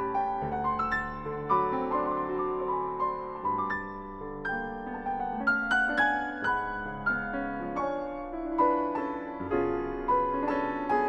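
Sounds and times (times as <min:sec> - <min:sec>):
slow classical piano piece: 0:00.0 - 0:11.0.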